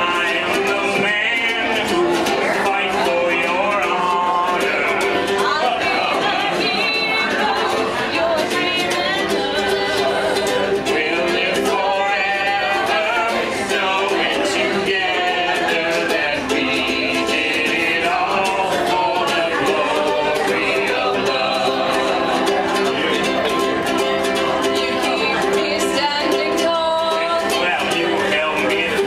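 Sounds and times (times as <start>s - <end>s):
people singing: 0.0s - 29.0s
strummed acoustic string instrument: 0.0s - 29.0s.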